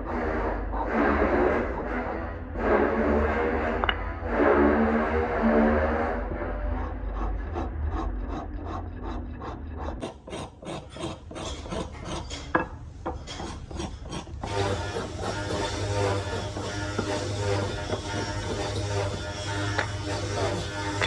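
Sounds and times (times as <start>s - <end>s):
rasp filing wood: 0.0s - 4.1s, 6.2s - 21.0s.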